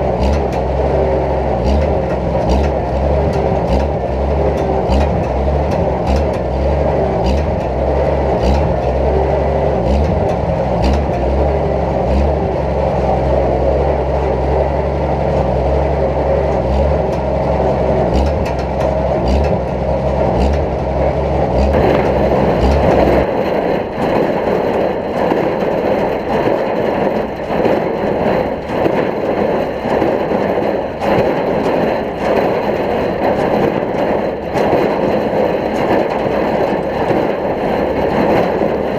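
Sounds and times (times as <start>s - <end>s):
baler machine chopping: 0.0s - 38.9s
tractor engine running: 0.0s - 38.9s.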